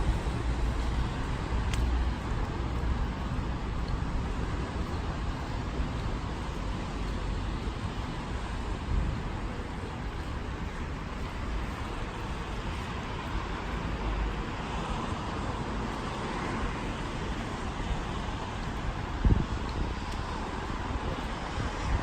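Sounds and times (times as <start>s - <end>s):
car tyres hissing on wet pavement: 0.0s - 22.0s
city traffic: 0.0s - 22.0s
rain: 0.0s - 22.0s.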